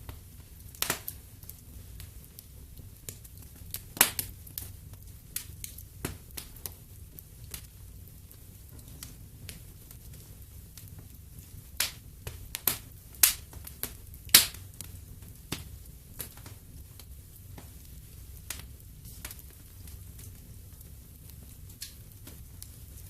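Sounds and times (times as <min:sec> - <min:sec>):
low steady fire rumble: 0:00.0 - 0:23.0
wood fire crackling: 0:00.0 - 0:23.0.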